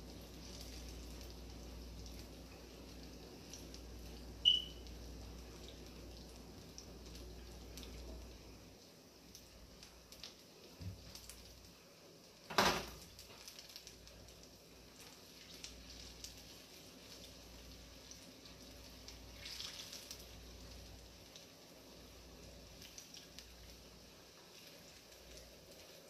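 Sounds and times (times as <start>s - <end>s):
dough balls sizzling in oil: 0.0s - 26.0s.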